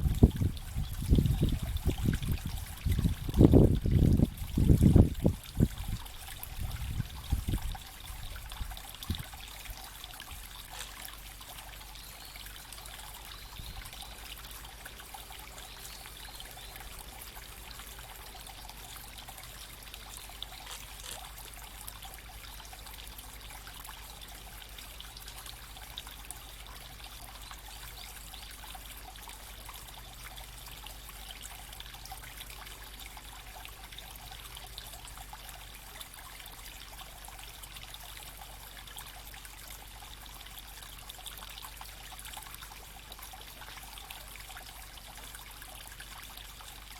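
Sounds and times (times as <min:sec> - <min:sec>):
creek babbling over stones: 0:00.0 - 0:46.9.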